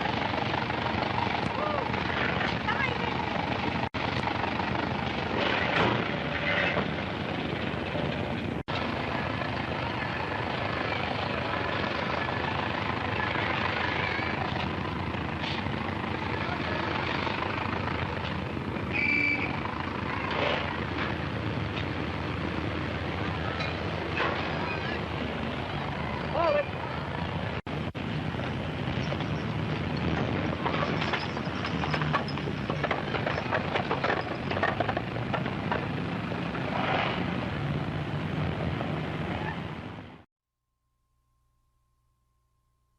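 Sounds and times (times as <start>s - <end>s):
city street traffic noise: 0.0s - 40.3s.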